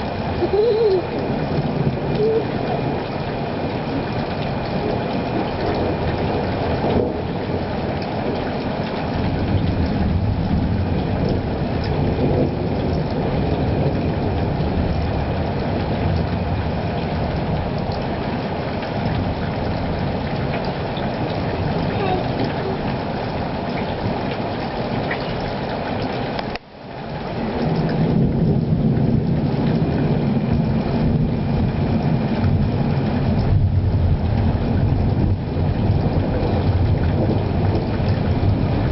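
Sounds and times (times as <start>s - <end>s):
low rumble of thunder: 0.0s - 38.9s.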